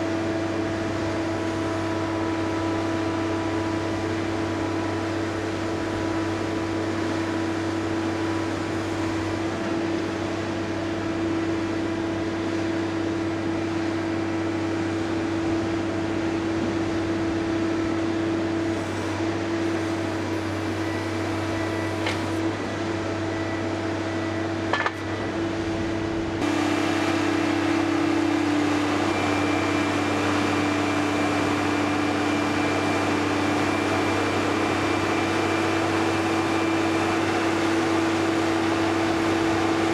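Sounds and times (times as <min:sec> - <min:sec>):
diesel engine droning with whine: 0:00.0 - 0:39.9.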